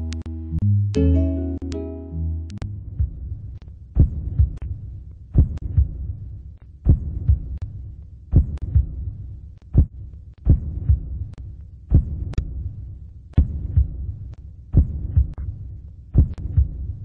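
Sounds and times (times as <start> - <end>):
low steady hum: 0.0 - 17.0
heartbeat-like double thumps: 2.7 - 17.0.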